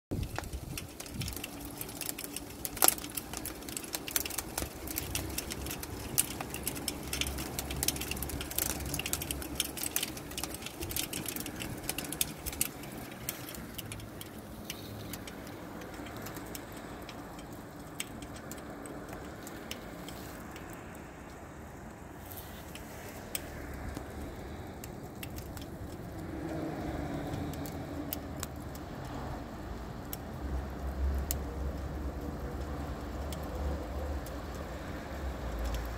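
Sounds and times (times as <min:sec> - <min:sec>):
hail pattering: 0:00.1 - 0:35.9.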